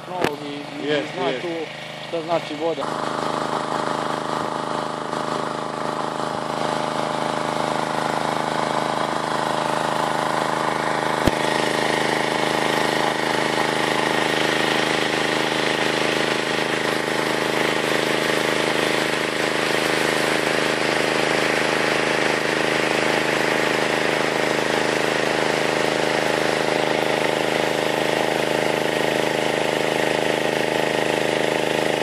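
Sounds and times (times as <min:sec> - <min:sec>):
water pump engine running: 0:00.0 - 0:32.0.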